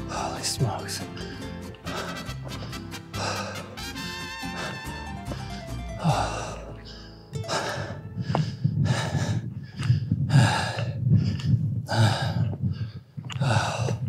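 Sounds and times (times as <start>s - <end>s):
person breathing hard: 0.0s - 14.0s.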